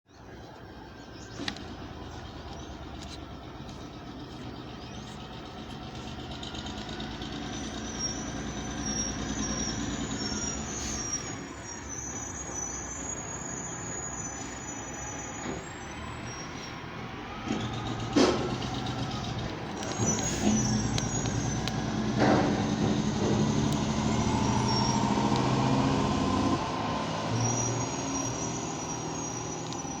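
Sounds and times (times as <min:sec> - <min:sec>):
diesel truck engine running: 0:00.2 - 0:30.0
engine brake bursts: 0:01.2 - 0:30.0.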